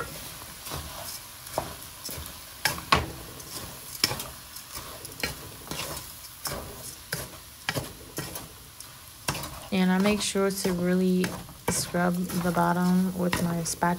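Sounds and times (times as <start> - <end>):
spatula scraping a pot: 0.0 - 8.6, 9.2 - 13.9
food sizzling: 0.0 - 13.9.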